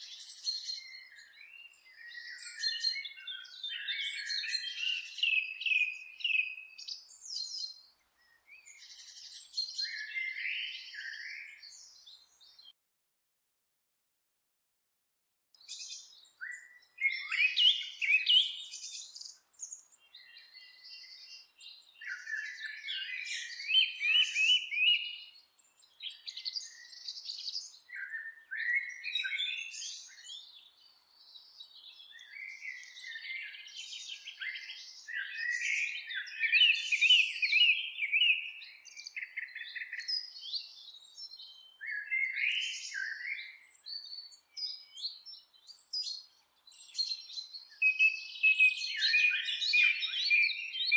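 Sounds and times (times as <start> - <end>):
songbirds chirping and trilling: 0.0 - 12.7, 15.6 - 50.9.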